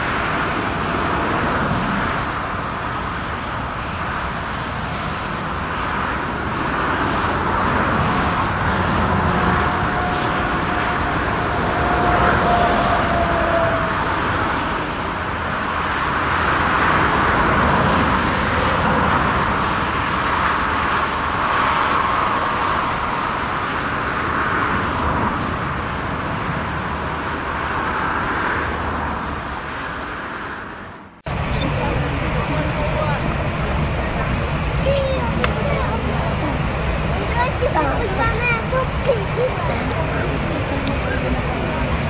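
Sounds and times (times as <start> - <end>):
airliner jet engine noise: 0.0 - 42.0.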